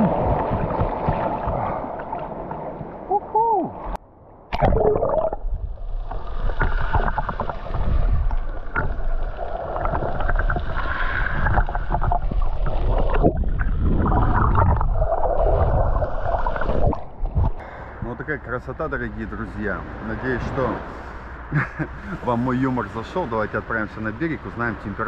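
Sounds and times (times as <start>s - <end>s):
muffled underwater rushing water: 0.0s - 25.0s.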